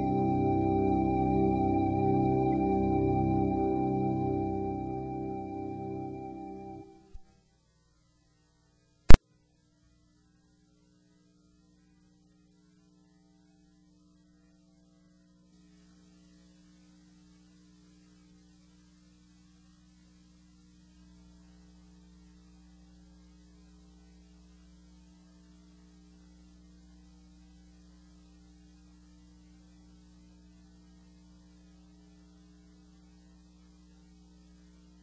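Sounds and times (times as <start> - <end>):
faint electrical mains hum: 0.0 - 35.0.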